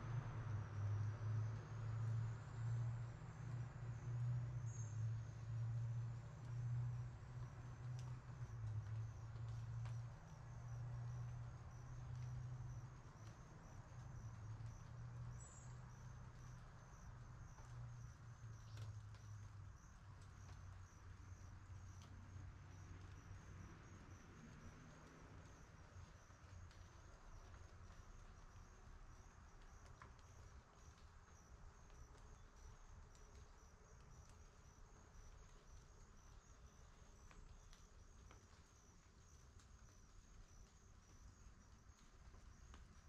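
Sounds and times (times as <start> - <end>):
insects chirping: 3.4 - 43.0.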